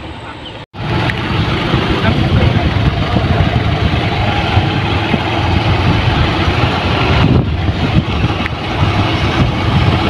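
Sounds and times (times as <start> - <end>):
road noise: 0.0 - 10.0
vehicle engine: 0.0 - 10.0.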